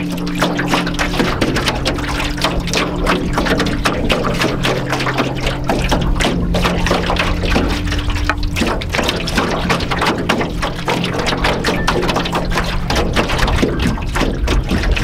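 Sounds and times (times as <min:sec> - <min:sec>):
ambient music drone: 0:00.0 - 0:15.0
waves lapping against canoe hull: 0:00.0 - 0:15.0.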